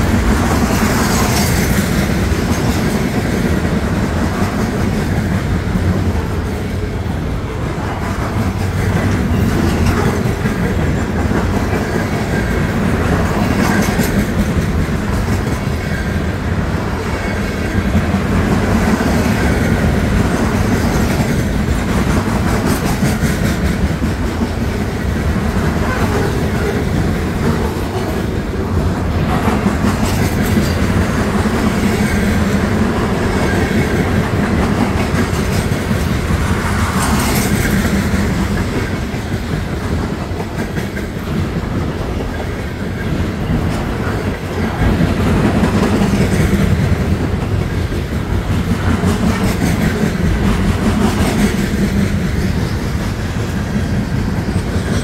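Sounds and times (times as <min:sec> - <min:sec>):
clickety-clack over rail joints: 0:00.0 - 0:55.0
freight train wheels rumbling: 0:00.0 - 0:55.0.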